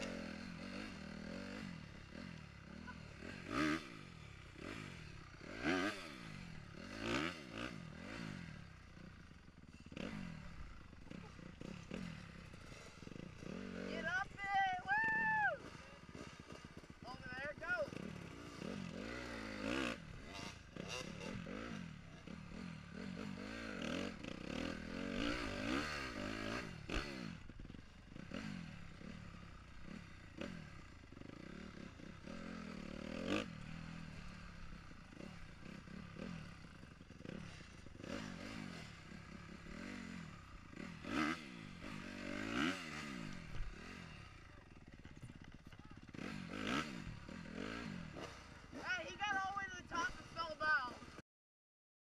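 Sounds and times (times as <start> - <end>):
dirt bike engine revving: 0.0 - 51.2.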